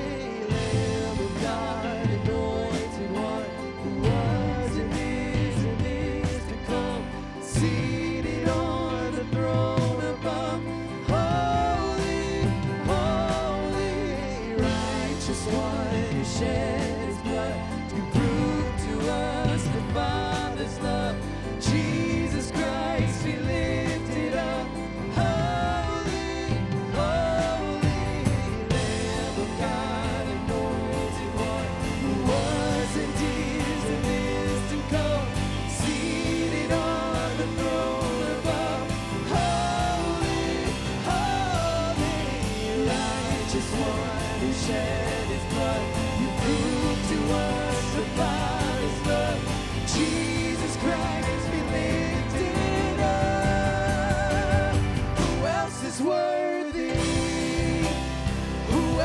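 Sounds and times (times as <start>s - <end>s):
people singing: 0.0s - 59.0s
worship band playing: 0.0s - 59.0s.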